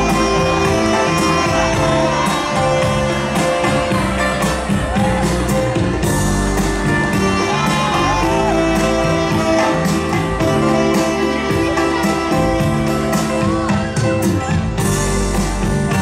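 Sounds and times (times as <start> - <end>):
bass guitar: 0.0 - 16.0
drums keeping a steady beat: 0.0 - 16.0.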